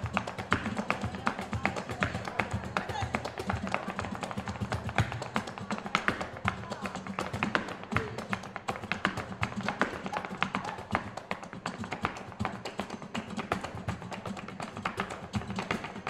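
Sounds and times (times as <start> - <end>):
flamenco music: 0.0 - 16.0.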